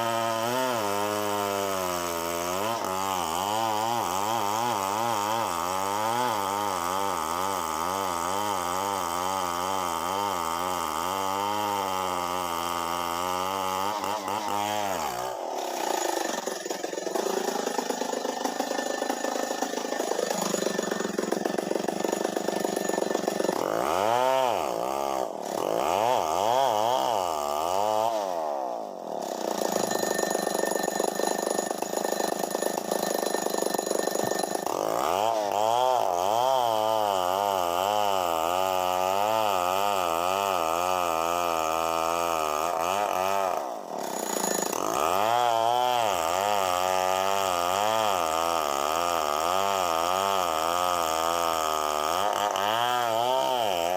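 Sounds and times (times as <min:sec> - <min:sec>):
chainsaw revving: 0:00.0 - 0:53.9.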